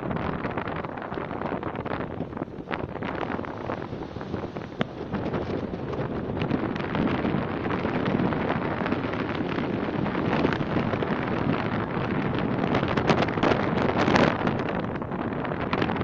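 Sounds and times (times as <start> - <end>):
waves breaking over boulders: 0.0 - 16.0
wind buffeting microphone: 0.0 - 16.0.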